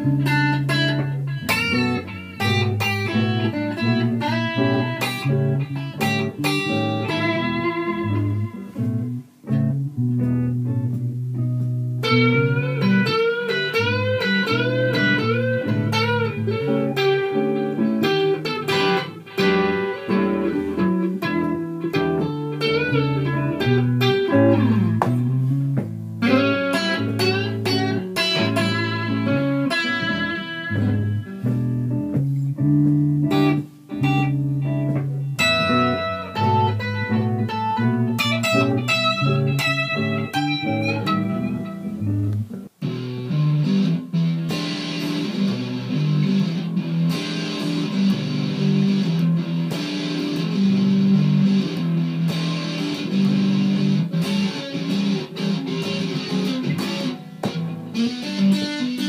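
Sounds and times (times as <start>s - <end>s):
solo guitar playing: 0.0s - 59.0s.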